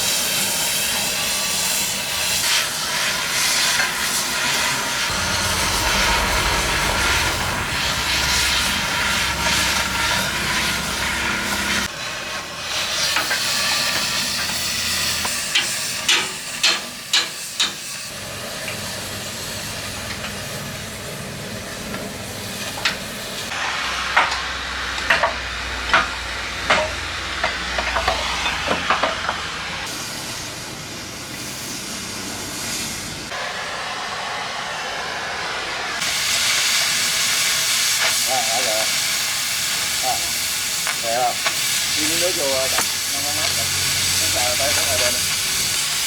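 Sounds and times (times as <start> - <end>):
cutting torch flame hissing: 0.0 - 46.0.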